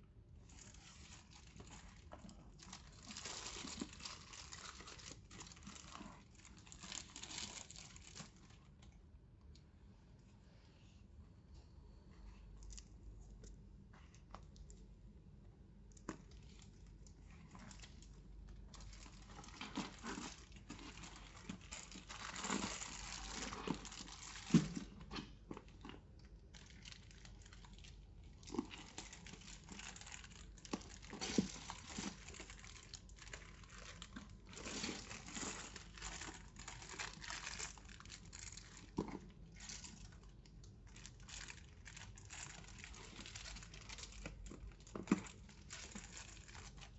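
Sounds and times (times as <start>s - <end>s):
packaging crinkling and rustling: 0.4s - 8.9s, 15.8s - 46.9s.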